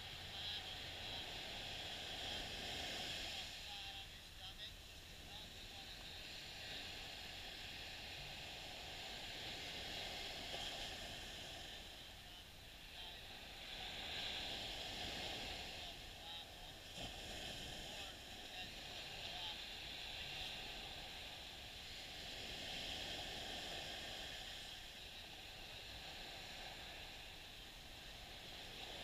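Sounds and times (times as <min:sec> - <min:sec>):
small waves washing on sand: 0:00.0 - 0:29.0.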